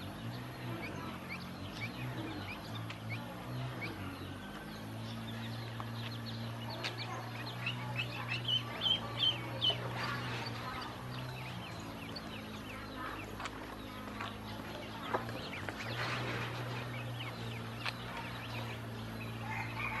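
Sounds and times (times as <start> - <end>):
ducklings peeping: 0.0 - 20.0
steady low hum: 0.0 - 20.0.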